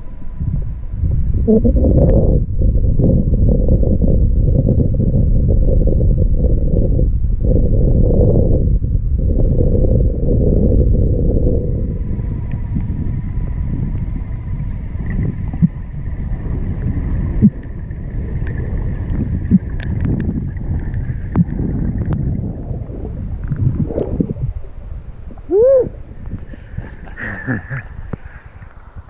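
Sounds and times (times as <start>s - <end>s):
faint steady tones: 0.0s - 29.0s
muffled underwater rumble: 0.0s - 29.0s.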